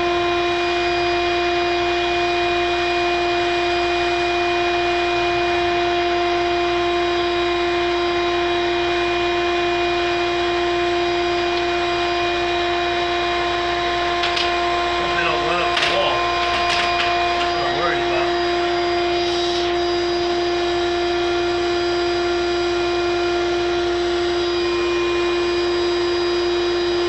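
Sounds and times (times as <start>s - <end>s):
machine whining: 0.0s - 27.0s.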